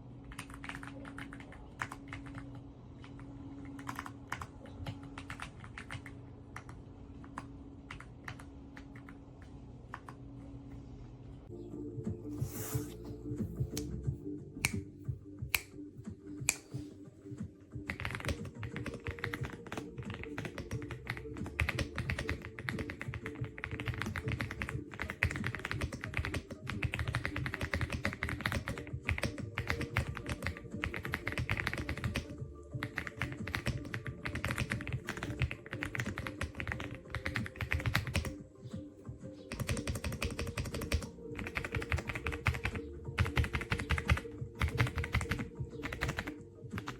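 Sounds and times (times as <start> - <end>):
background music: 0.0 - 46.9.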